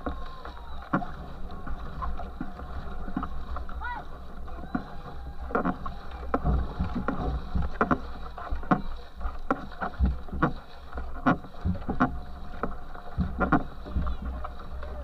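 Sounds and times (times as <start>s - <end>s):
low rumble of water: 0.0s - 15.0s
water splashing at canoe stern: 0.0s - 15.0s.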